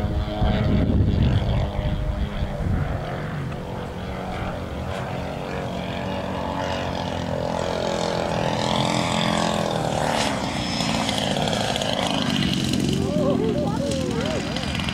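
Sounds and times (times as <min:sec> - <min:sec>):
model plane engine: 0:00.0 - 0:14.9.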